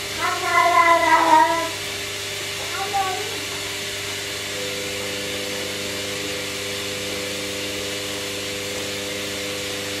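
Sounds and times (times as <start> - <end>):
washing machine whirring: 0.0 - 10.0.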